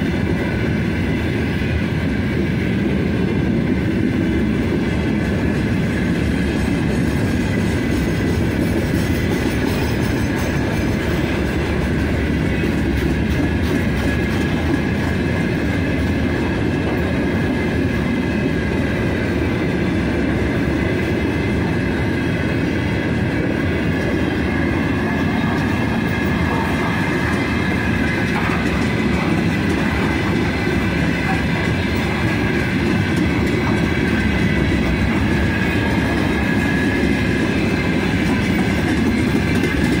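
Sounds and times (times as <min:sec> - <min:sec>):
clickety-clack over rail joints: 0:00.0 - 0:40.0
freight train wheels rumbling: 0:00.0 - 0:40.0.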